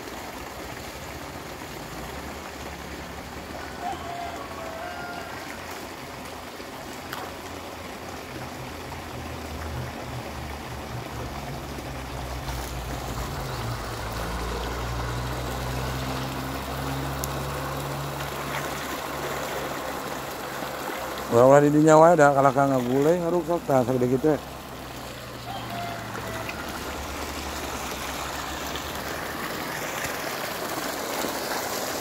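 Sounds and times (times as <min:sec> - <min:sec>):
water running and trickling: 0:00.0 - 0:32.0.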